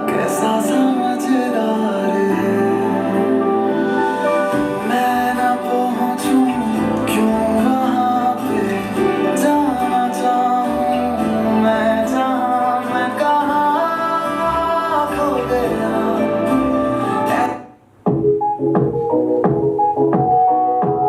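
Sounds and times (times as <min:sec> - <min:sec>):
song with singing through speaker: 0:00.0 - 0:21.0.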